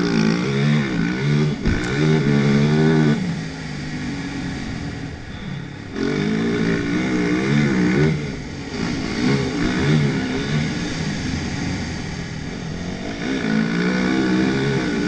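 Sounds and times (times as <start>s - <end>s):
motocross engine revving: 0.0s - 15.0s.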